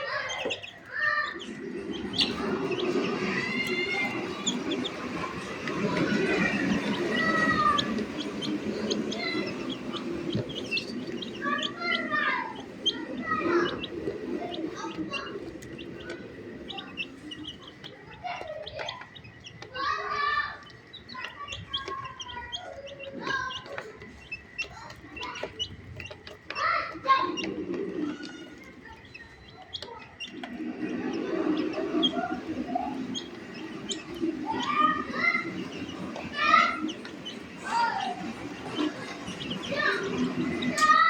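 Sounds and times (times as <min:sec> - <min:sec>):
chicks peeping: 0:00.0 - 0:41.0
low murmur: 0:00.0 - 0:41.0.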